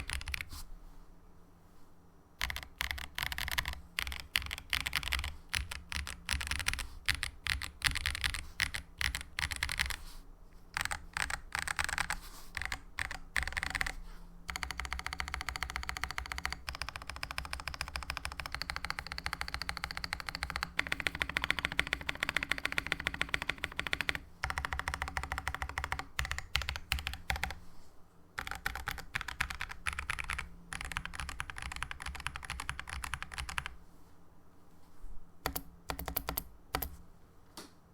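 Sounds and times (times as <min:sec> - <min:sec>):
fast typing on mechanical keyboard: 0:00.0 - 0:00.5, 0:02.4 - 0:10.0, 0:10.7 - 0:27.6, 0:28.4 - 0:33.8, 0:35.4 - 0:36.9.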